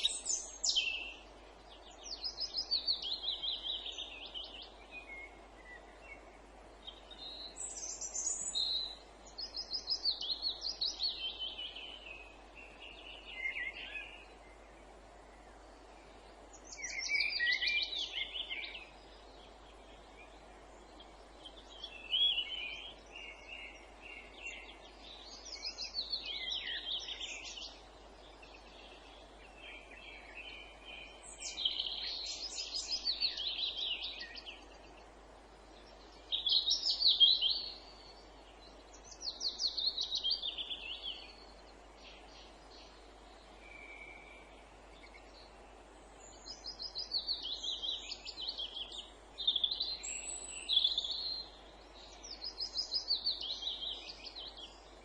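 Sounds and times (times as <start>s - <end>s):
faint background hiss: 0.0s - 55.0s
songbird singing: 0.0s - 55.0s.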